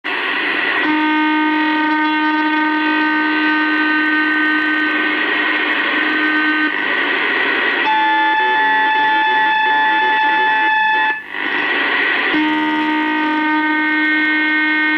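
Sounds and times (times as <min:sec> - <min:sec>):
radio hiss: 0:00.1 - 0:14.9
steady radio tones: 0:00.1 - 0:14.9.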